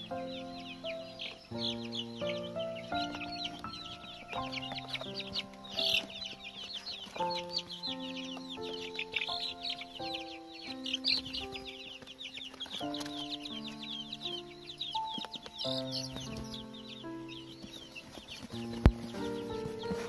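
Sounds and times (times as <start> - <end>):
chicks peeping: 0.0 - 20.0
soft background music: 0.0 - 20.0.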